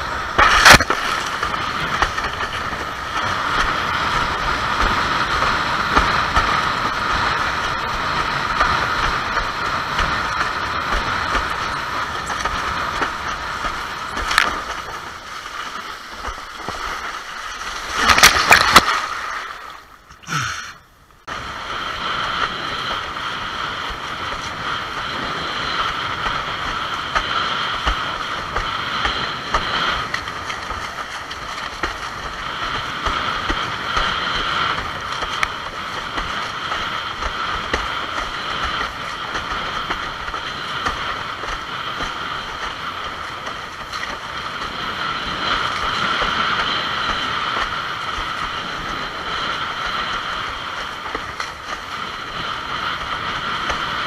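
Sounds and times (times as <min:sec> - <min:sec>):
rush of wind and water: 0:00.0 - 0:54.0.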